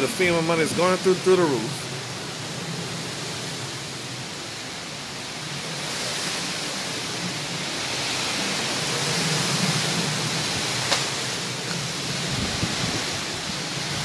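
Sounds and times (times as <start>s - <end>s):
heavy rain: 0.0s - 14.0s
strong wind: 0.0s - 14.0s.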